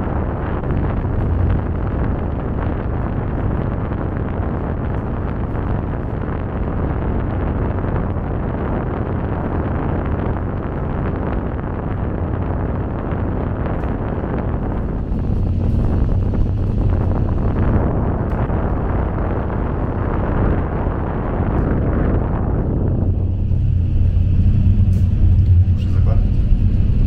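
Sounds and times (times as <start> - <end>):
cable car cabin running noise: 0.0 - 27.0
wind buffeting microphone: 0.0 - 27.0.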